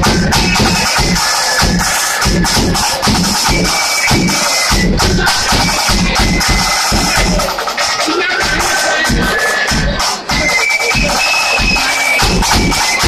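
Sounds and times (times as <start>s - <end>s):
bass drum beat: 0.0s - 13.0s
flutes playing tune: 0.0s - 13.0s
snare drums: 0.0s - 13.0s.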